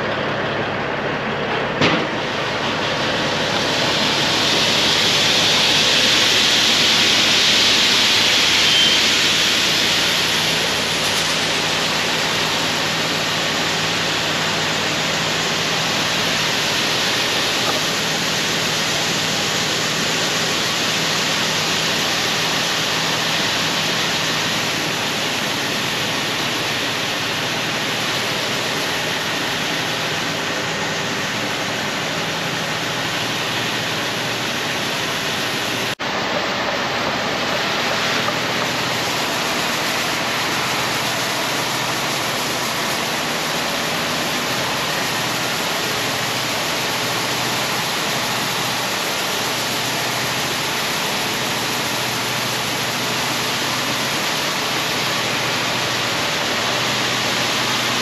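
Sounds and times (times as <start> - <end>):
grain pouring with rushing hiss: 1.9 - 58.0.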